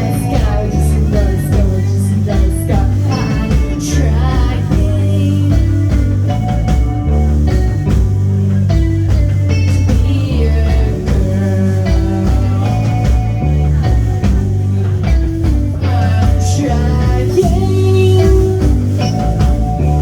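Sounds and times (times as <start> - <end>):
bass guitar notes: 0.0 - 20.0
drum hits: 0.0 - 20.0
electric guitar: 0.0 - 20.0.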